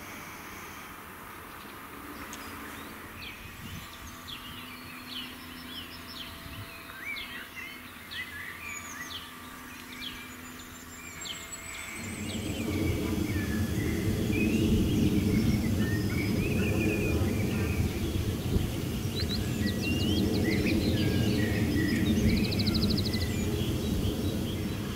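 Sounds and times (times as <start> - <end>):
faint steady hum: 0.0 - 24.9
small birds chirping: 0.3 - 24.9.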